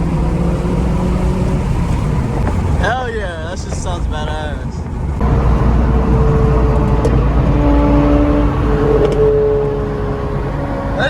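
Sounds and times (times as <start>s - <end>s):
car engine and exhaust drone: 0.0s - 11.0s
road noise: 0.0s - 11.0s.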